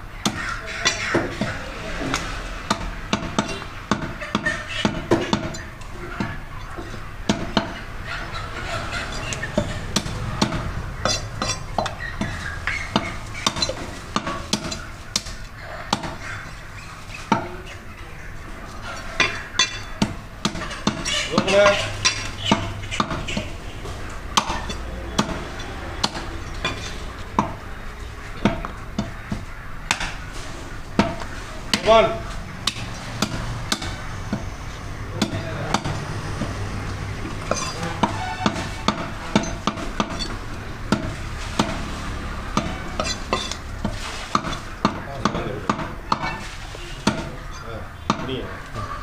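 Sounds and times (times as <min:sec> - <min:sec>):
cleaver chopping meat and bone: 0:00.2 - 0:08.0, 0:09.1 - 0:17.9, 0:19.0 - 0:30.3, 0:30.9 - 0:48.8.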